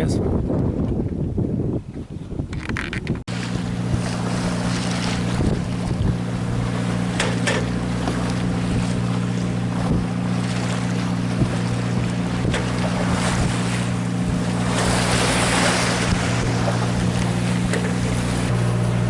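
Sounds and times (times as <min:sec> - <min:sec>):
boat engine running: 0:00.0 - 0:19.0
wind on microphone: 0:00.0 - 0:19.0
waves washing by: 0:03.3 - 0:19.0.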